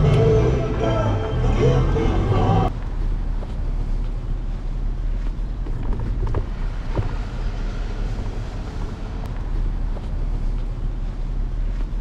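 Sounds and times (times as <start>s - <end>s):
wind and road noise rumble: 0.0s - 12.0s.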